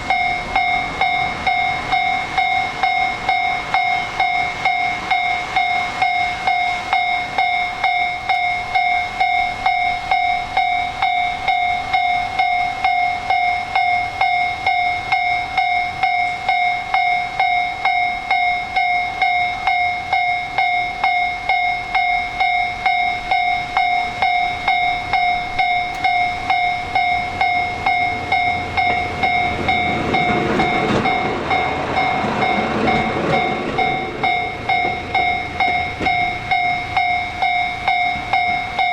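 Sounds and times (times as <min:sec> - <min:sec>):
diesel train passing: 0:00.0 - 0:38.9
railroad crossing bell ringing: 0:00.0 - 0:38.9.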